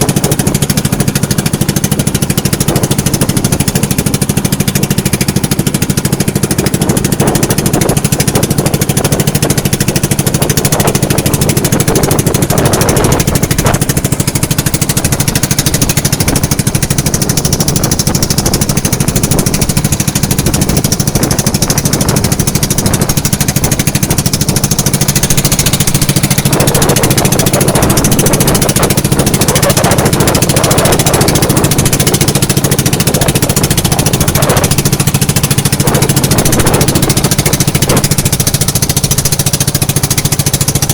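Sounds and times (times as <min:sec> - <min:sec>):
small engine running: 0:00.0 - 0:40.9
steady rushing noise: 0:00.0 - 0:40.9.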